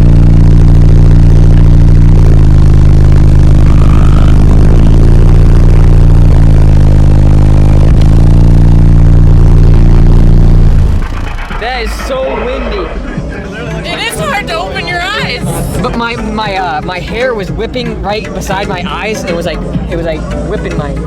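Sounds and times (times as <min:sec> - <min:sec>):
loud bass music from car subwoofers: 0:00.0 - 0:21.0.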